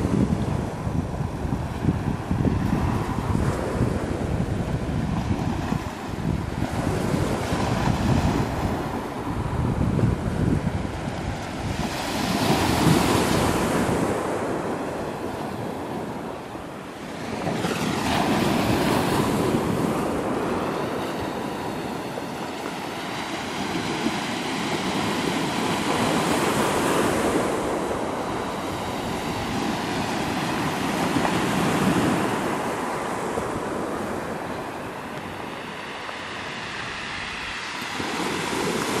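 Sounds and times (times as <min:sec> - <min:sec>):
waves washing on pebble beach: 0:00.0 - 0:39.0.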